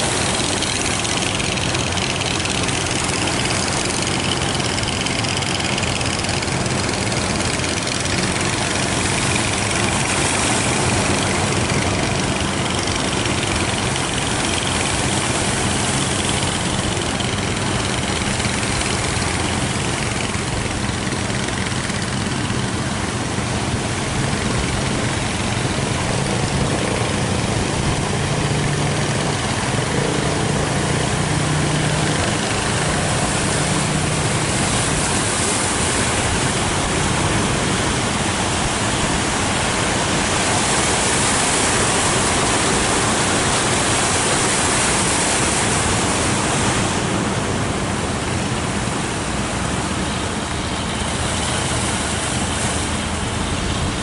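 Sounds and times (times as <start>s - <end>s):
boat engines droning: 0.0s - 54.0s
surf rushing: 0.0s - 54.0s
wind: 0.0s - 54.0s.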